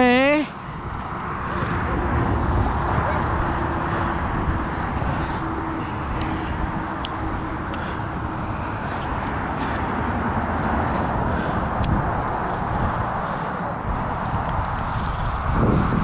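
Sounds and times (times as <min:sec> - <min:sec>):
city traffic: 0:00.0 - 0:16.0
wind buffeting microphone: 0:00.0 - 0:16.0.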